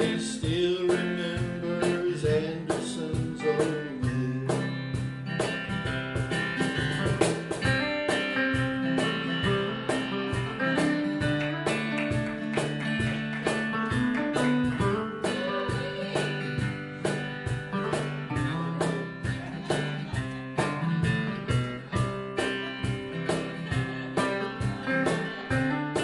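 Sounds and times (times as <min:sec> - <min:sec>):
guitars strumming chords: 0:00.0 - 0:26.0.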